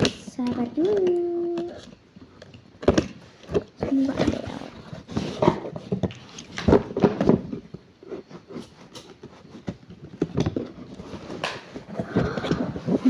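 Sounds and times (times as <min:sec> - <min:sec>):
packaging rustling and knocking: 0:00.0 - 0:13.0.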